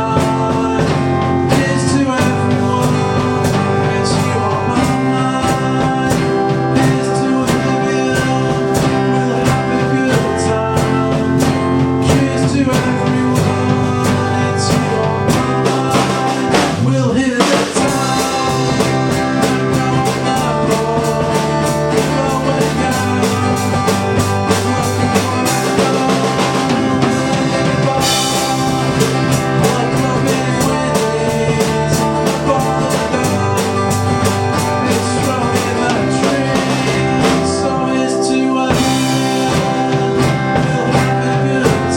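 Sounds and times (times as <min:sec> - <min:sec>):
drums keeping steady beat: 0:00.0 - 0:41.9
rock band playing live: 0:00.0 - 0:41.9.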